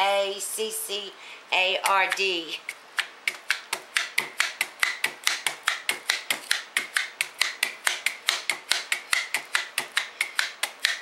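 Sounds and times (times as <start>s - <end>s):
meat tenderizer clicking: 1.9s - 11.0s.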